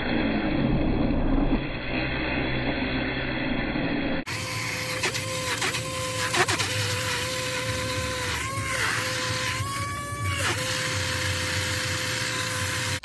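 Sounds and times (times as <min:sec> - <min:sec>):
blender motor whining: 0:01.6 - 0:13.0.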